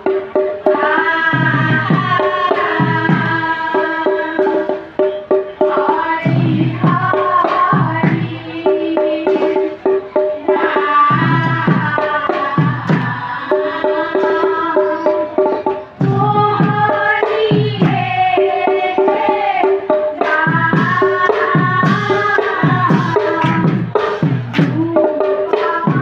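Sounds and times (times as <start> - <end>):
hand drum beats: 0.0 - 26.0
women's group singing: 0.6 - 26.0.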